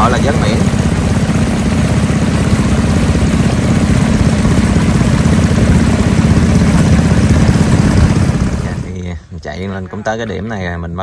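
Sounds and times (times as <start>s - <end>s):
boat engine running: 0.0s - 9.0s.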